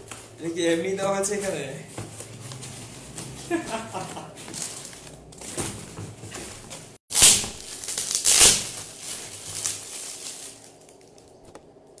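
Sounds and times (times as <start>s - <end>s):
gift wrap rustling and crumpling: 0.0s - 5.8s, 6.4s - 11.5s.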